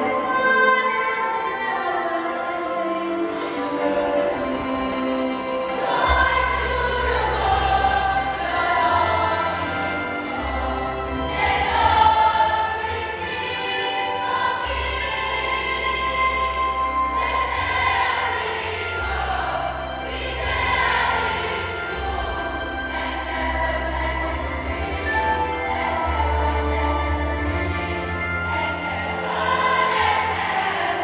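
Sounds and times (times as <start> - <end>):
choir singing carols: 0.0 - 31.0.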